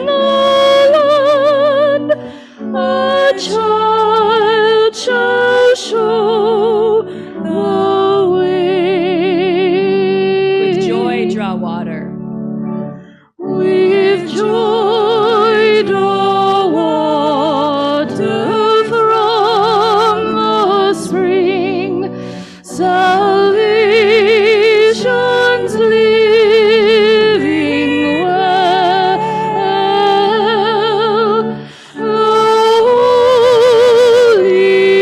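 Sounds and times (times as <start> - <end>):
person singing a hymn with vibrato: 0.0 - 12.1, 13.4 - 35.0
held accompaniment notes: 0.0 - 35.0.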